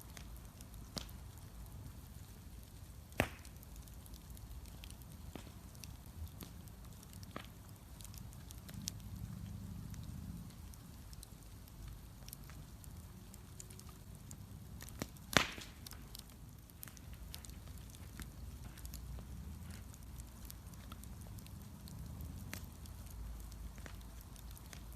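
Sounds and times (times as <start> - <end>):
bonfire crackling: 0.0 - 24.9
fire popping: 0.0 - 24.9
low rumble of flames: 0.0 - 24.9.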